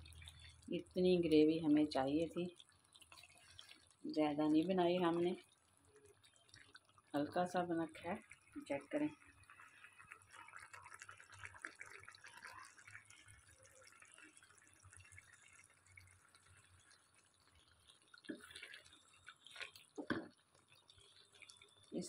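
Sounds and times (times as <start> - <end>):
curry bubbling and sizzling: 0.0 - 22.0.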